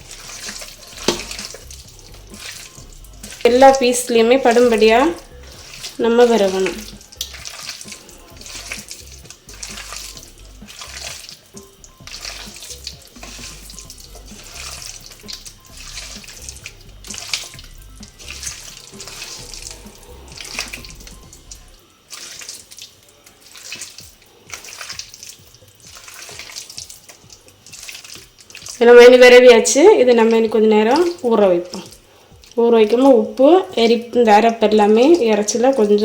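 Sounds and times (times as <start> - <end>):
wet squelching of mixing meat: 0.0 - 36.0.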